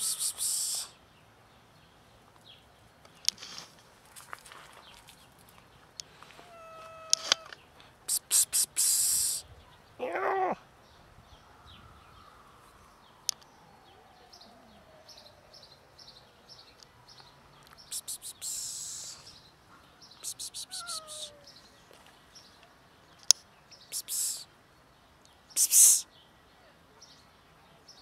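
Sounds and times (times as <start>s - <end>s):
birds chirping: 4.8s - 28.0s.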